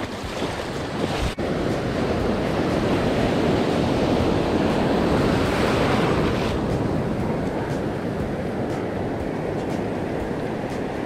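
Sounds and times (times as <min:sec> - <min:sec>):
breaking surf rushing: 0:00.0 - 0:11.0.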